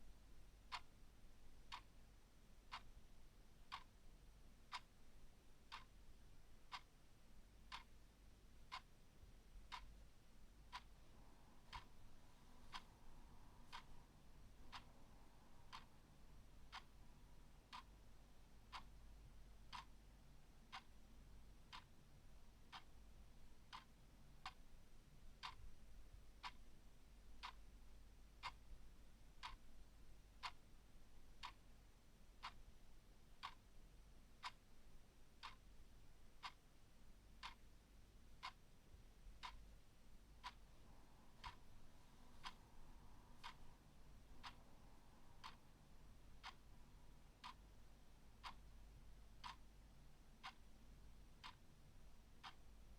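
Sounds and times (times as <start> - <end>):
clock ticking: 0.0 - 52.9.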